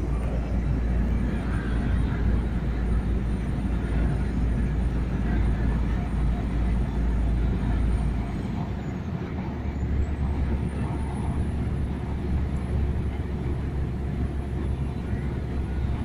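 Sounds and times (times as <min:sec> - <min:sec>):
road noise hiss: 0:00.0 - 0:16.0
vehicle engine rumble: 0:00.0 - 0:16.0.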